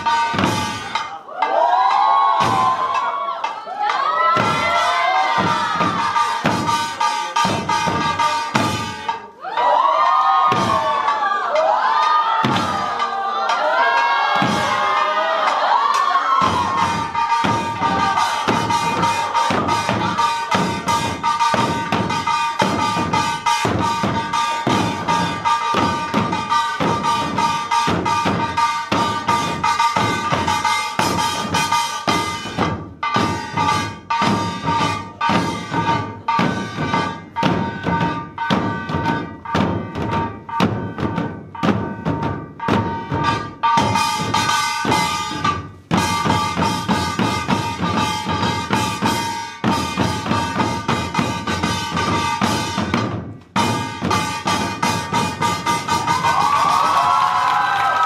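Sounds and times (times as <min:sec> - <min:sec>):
barrel drums beaten fast: 0:00.0 - 0:09.7, 0:10.4 - 0:58.0.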